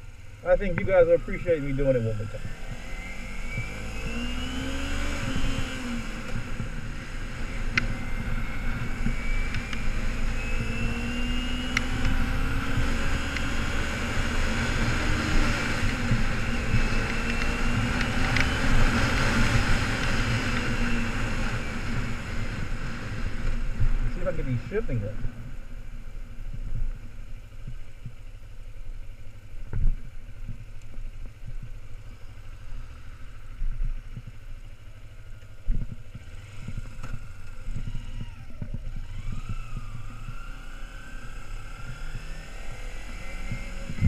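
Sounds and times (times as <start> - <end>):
wind rushing over microphone: 0.0 - 28.2, 35.6 - 44.0
motorcycle engine revving: 0.0 - 28.5, 29.9 - 44.0.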